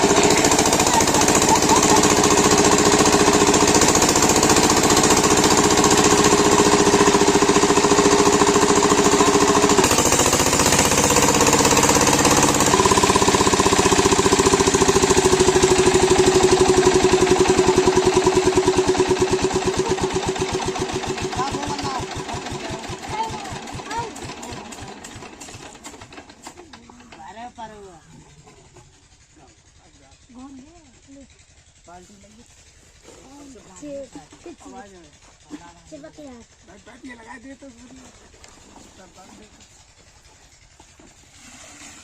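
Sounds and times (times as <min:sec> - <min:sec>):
diesel engine knocking: 0:00.0 - 0:41.0.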